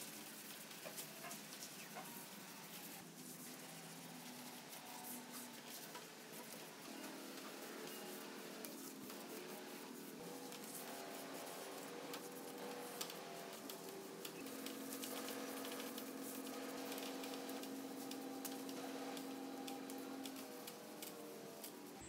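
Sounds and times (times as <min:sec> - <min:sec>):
faint steady hum of tones: 0:00.0 - 0:22.0
rag rubbing on wood: 0:00.4 - 0:21.9.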